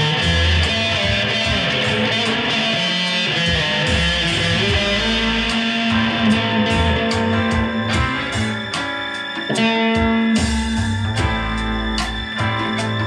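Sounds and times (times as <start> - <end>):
electric guitar long held notes: 0.0 - 13.0.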